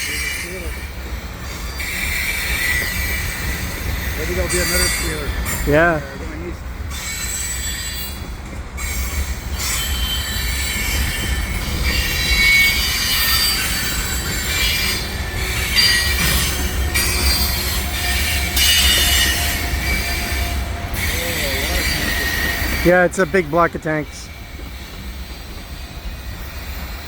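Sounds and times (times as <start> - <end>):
train low rumble: 0.0 - 27.0
train wheels squealing on rails: 0.0 - 27.0.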